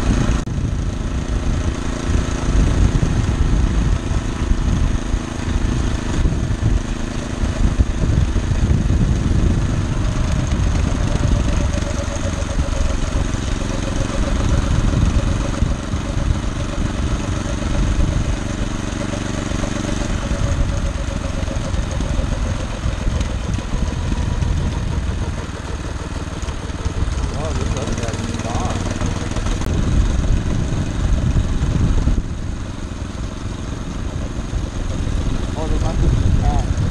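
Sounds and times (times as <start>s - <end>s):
small engine running: 0.0s - 36.9s.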